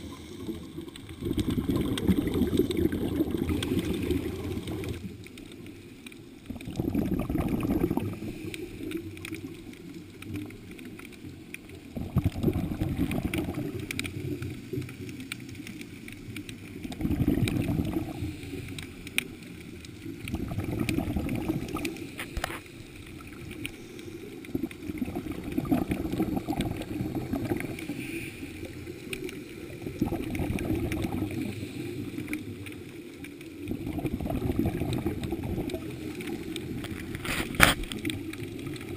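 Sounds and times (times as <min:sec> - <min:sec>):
underwater regulator bubbles: 0:00.0 - 0:05.4, 0:06.4 - 0:38.9.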